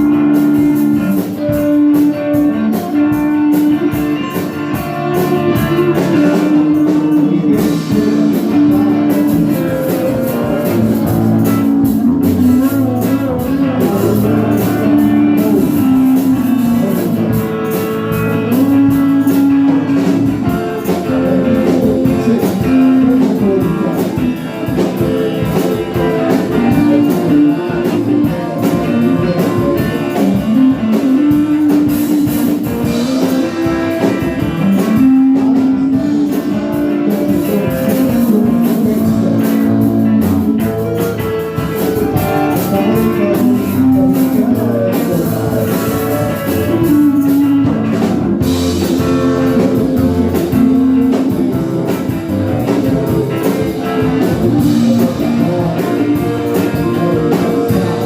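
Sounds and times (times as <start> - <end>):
drum kit beat: 0.0 - 58.0
guitar melody: 0.0 - 58.0.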